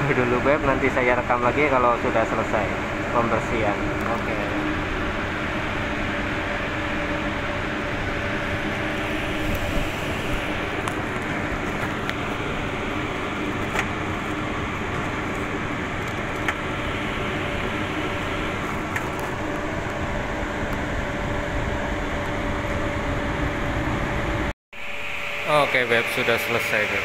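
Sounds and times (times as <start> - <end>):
machinery droning: 0.0 - 27.0.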